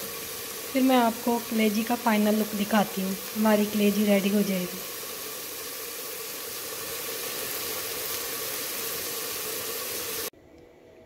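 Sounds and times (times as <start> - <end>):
food sizzling in a pot: 0.0 - 10.3.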